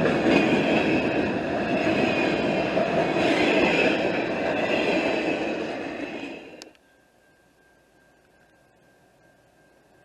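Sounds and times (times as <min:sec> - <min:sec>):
train wheels rumbling on track: 0:00.0 - 0:10.0.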